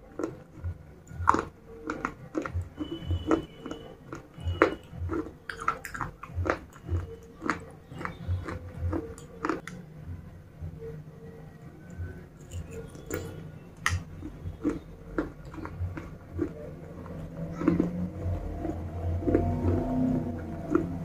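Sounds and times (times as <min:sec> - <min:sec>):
person chewing crunchy pieces: 0:00.0 - 0:09.8, 0:11.9 - 0:21.0.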